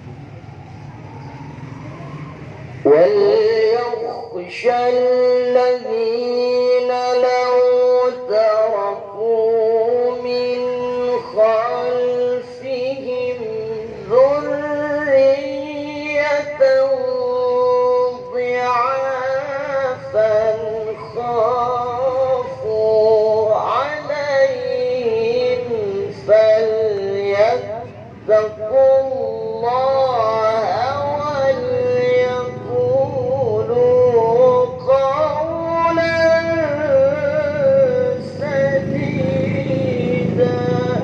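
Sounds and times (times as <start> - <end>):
man chanting into a microphone: 2.8 - 41.0.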